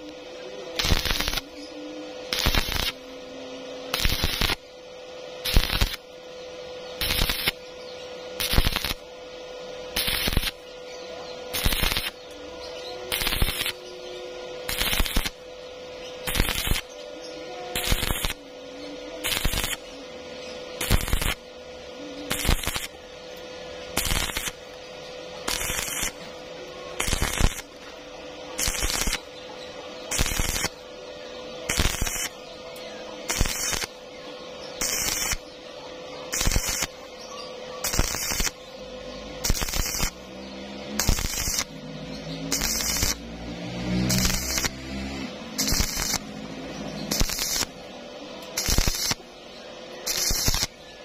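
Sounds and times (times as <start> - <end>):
steady hum: 0.0 - 51.0
welding arc bursts: 0.7 - 6.2, 6.8 - 10.8, 11.5 - 34.0, 34.6 - 35.5, 36.2 - 49.3, 50.0 - 50.8.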